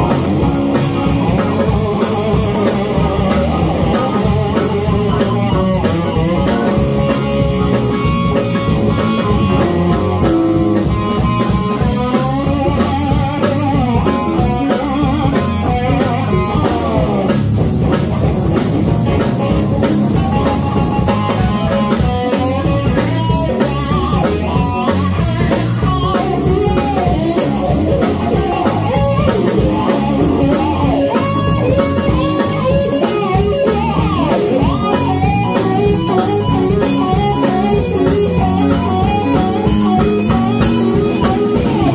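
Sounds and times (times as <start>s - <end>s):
bass guitar: 0.0s - 41.9s
drum kit: 0.0s - 41.9s
electric guitar lead: 0.0s - 41.9s.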